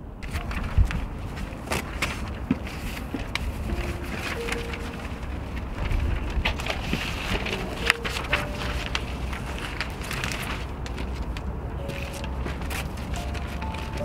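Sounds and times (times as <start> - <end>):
wind rumble on microphone: 0.0 - 11.9
paper rustling: 0.2 - 14.0.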